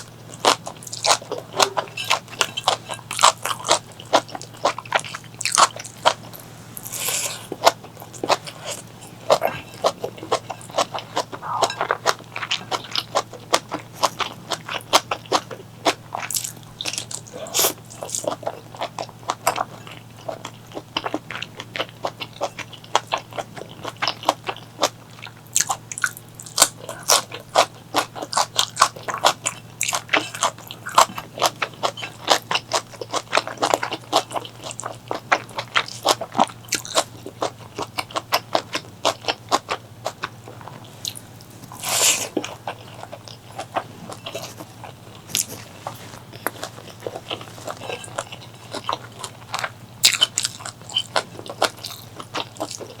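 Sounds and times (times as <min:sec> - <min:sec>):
biting and chewing: 0:00.0 - 0:53.0
faint low hum: 0:00.0 - 0:53.0.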